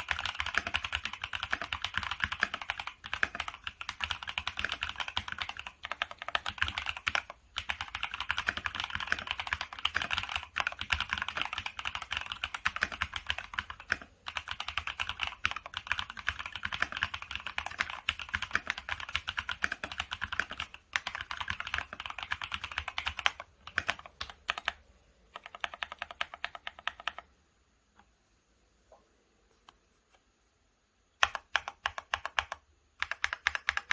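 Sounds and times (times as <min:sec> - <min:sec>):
fast mechanical keyboard typing: 0:00.0 - 0:27.3, 0:31.2 - 0:33.9.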